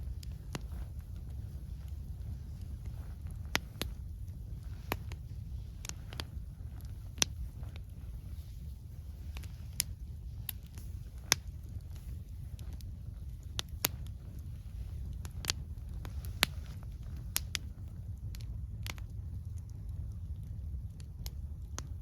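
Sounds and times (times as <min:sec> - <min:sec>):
campfire crackling: 0:00.0 - 0:22.0
low rumble: 0:00.0 - 0:22.0.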